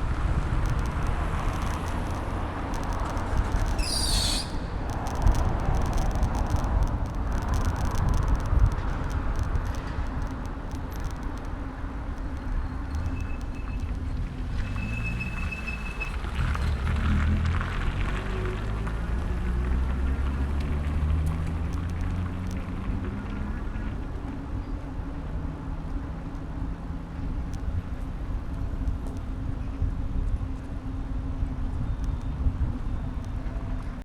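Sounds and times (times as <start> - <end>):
street traffic: 0.0 - 34.0
wind and road rumble: 0.0 - 34.0.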